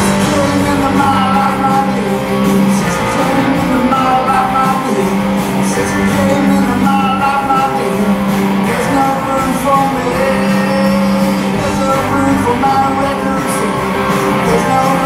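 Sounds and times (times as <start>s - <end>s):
drum kit: 0.0s - 15.0s
electric guitars: 0.0s - 15.0s
person singing: 0.0s - 15.0s.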